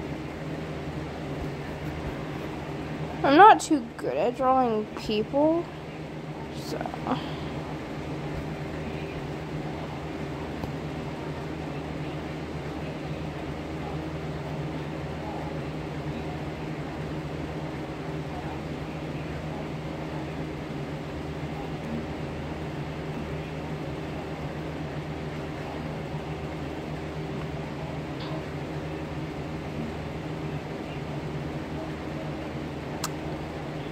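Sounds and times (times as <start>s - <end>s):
electric fan humming: 0.0s - 33.9s.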